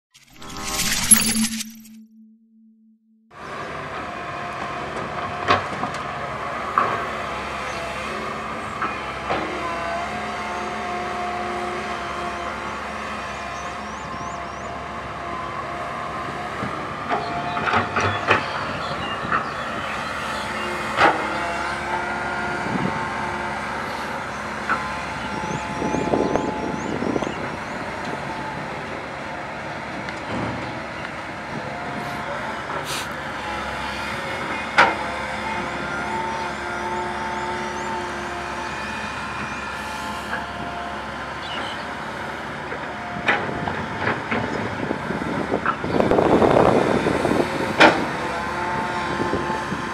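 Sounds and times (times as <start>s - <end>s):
excavator engine running: 3.5s - 49.9s
hydraulic whine: 7.6s - 49.9s.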